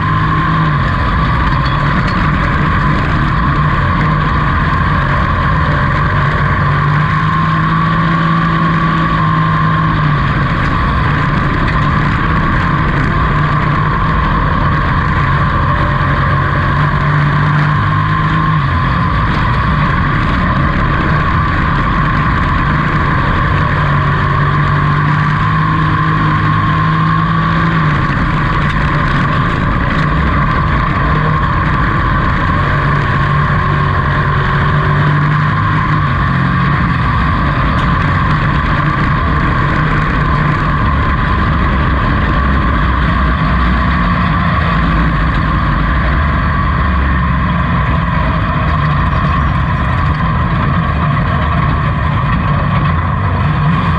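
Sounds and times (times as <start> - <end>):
high whine: 0.0 - 53.9
truck engine running hard: 0.0 - 53.9.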